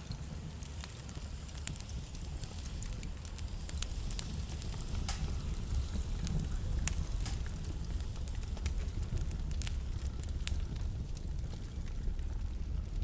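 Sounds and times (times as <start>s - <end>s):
burning logs crackling and popping: 0.0s - 13.0s
fire flames rumbling: 0.0s - 13.0s.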